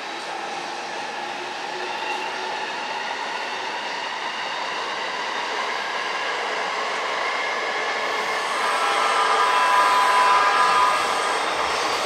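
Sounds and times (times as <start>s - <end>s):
train rolling on tracks: 0.0s - 12.0s.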